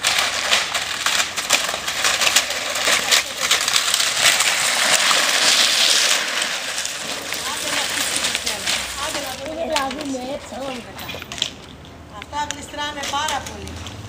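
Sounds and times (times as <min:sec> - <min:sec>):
wooden planks scraping over cobblestones: 0:00.0 - 0:14.0.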